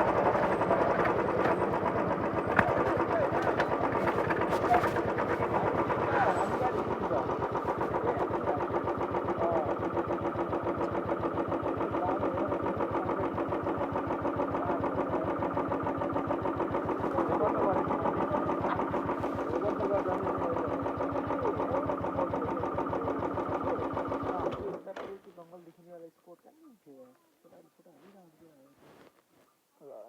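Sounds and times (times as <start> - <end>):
motorcycle engine idling: 0.0 - 26.1.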